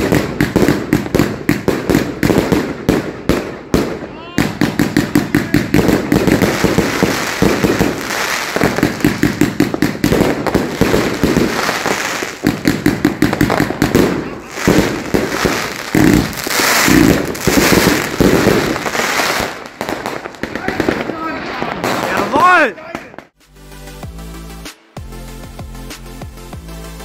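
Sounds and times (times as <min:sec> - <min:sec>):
fireworks and firecrackers banging: 0:00.0 - 0:23.4.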